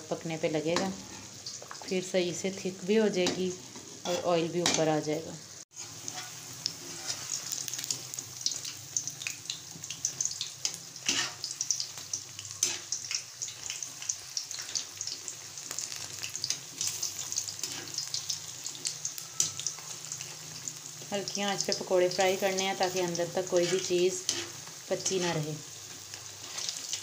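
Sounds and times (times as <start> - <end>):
deep-frying sizzle with crackles: 0.0 - 27.0.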